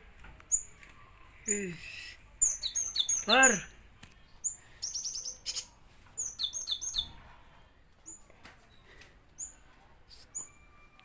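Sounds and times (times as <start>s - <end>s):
bird chirping: 0.4s - 7.2s, 8.0s - 11.0s.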